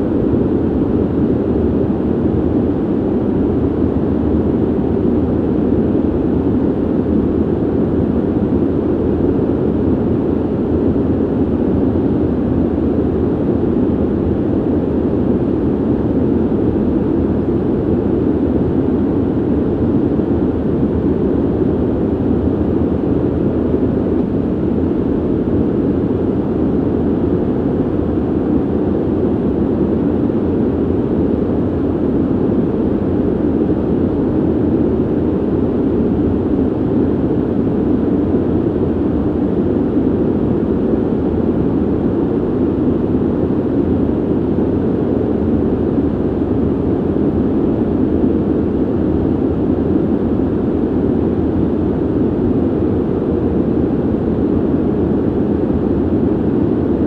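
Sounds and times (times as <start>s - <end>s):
ventilation air rushing: 0.0s - 57.0s.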